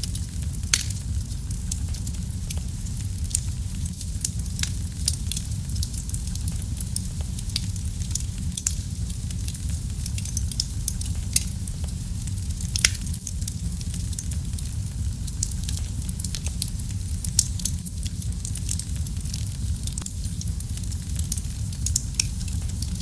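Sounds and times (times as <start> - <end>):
fire crackling and popping: 0.0 - 23.0
low rumble of flames: 0.0 - 23.0.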